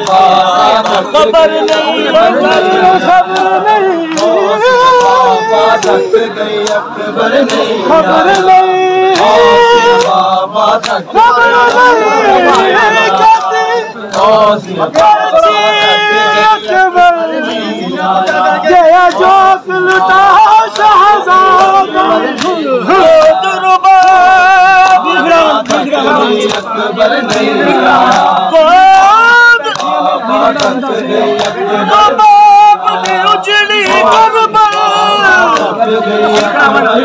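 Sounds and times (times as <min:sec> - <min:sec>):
crowd of men chanting: 0:00.0 - 0:37.0.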